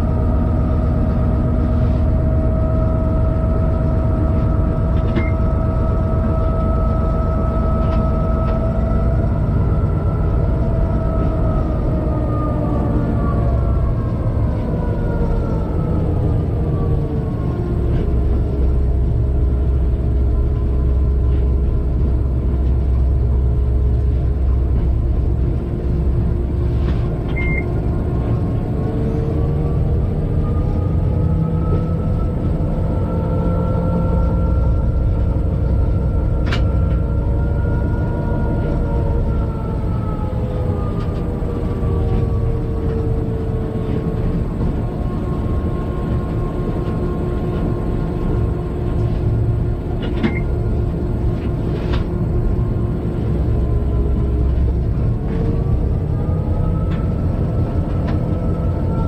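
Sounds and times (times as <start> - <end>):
steady whine: 0.0 - 59.0
train rumble in cab: 0.0 - 59.0.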